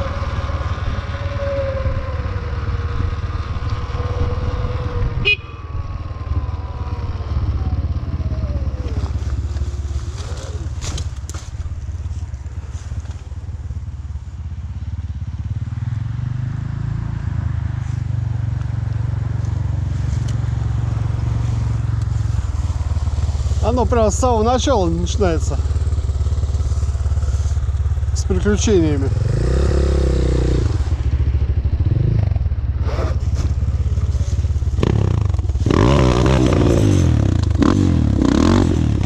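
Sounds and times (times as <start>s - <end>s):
vehicle motor running: 0.0s - 39.0s.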